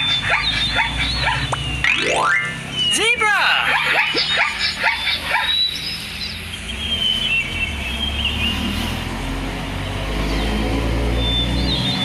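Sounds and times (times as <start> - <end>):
birds chirping: 0.0 - 8.7, 9.8 - 12.0.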